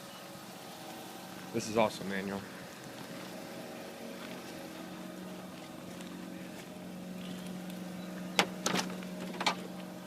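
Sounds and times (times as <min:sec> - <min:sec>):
rotary engine idling: 0:00.0 - 0:10.0.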